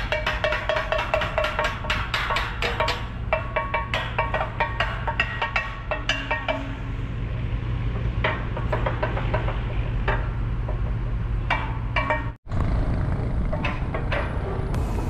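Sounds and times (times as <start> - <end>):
engine idling hum: 1.6 - 15.0.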